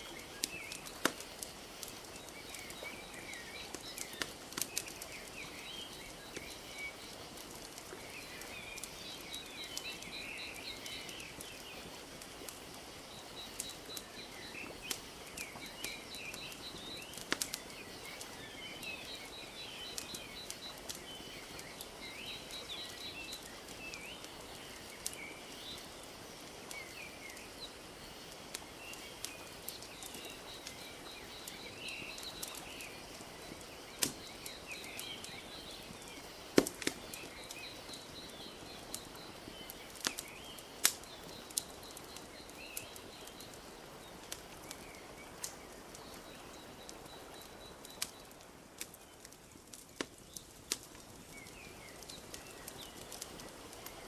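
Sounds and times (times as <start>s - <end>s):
small birds chirping and trilling: 0.0s - 54.0s
wood fire crackling and popping: 0.0s - 54.0s.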